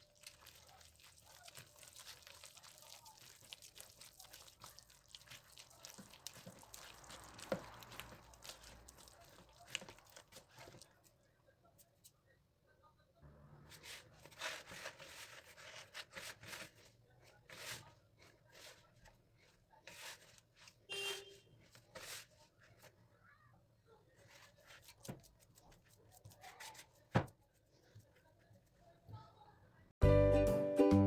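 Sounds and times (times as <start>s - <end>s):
rustling and rubbing of objects: 0.0s - 12.2s, 13.7s - 23.2s, 24.0s - 29.2s.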